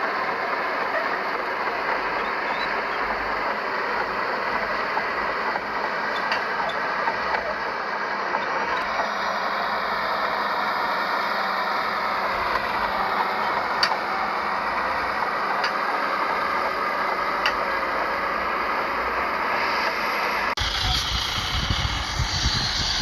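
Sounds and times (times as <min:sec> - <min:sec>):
heavy machinery diesel engine running: 0:00.0 - 0:23.0.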